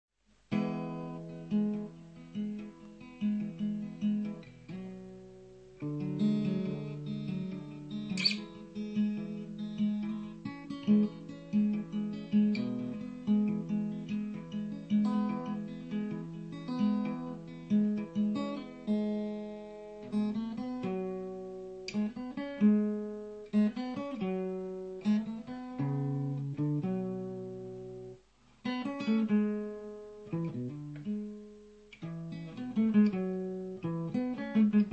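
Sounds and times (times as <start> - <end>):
solo guitar plucking and strumming: 0.5 - 34.9.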